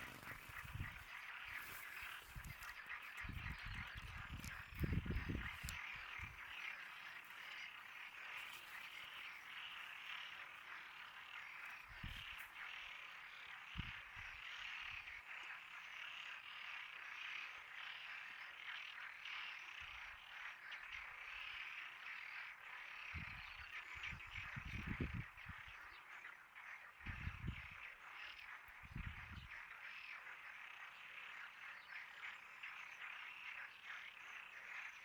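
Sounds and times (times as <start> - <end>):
chorus of frogs calling: 0.0 - 35.0.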